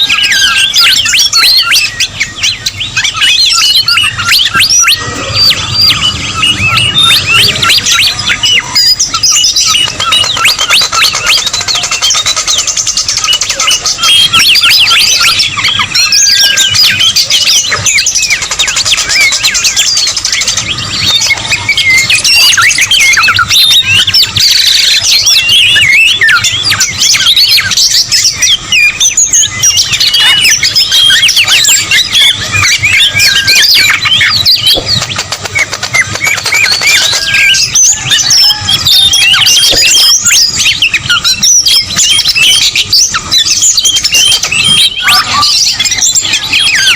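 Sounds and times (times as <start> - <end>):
chorus of birds calling: 0.0 - 46.9.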